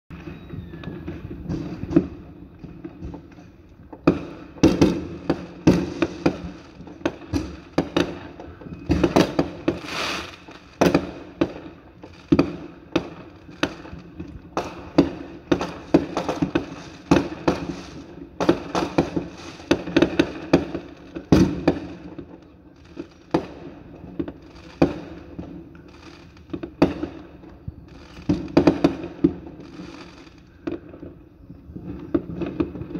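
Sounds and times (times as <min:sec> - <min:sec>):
fireworks bursting: 0:00.1 - 0:32.9.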